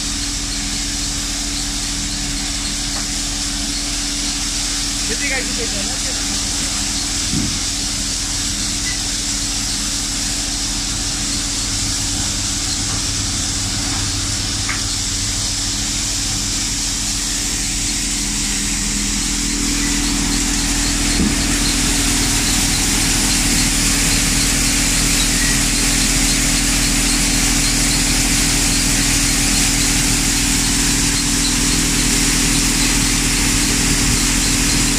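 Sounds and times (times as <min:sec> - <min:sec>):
grain thresher humming and hissing: 0:00.0 - 0:34.9.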